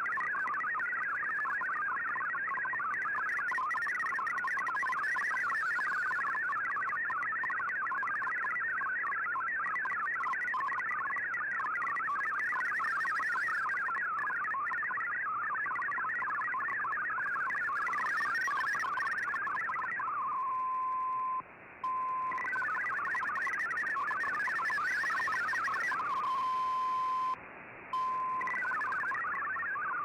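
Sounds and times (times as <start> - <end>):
warbling digital data tones: 0.0 - 30.0.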